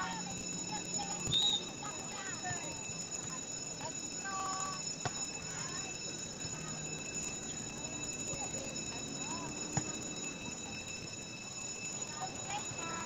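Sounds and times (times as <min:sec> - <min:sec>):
faint voices: 0:00.0 - 0:13.0
high-pitched whine: 0:00.0 - 0:13.0.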